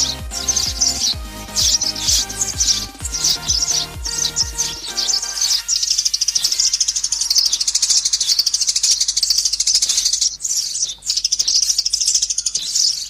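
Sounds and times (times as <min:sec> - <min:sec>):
sparrow chirping: 0:00.0 - 0:13.0.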